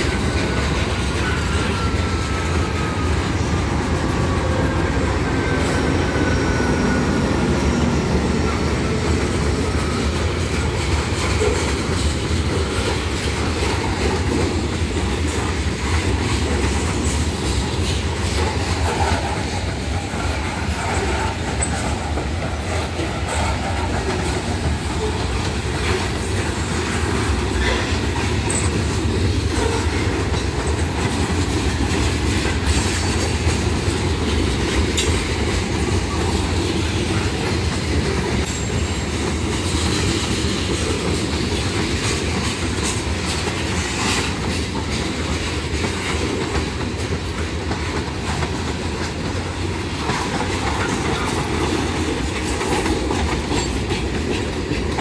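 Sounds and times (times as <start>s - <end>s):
diesel locomotives passing: 0.0s - 55.0s
steel wheels rumbling on rail: 0.0s - 55.0s.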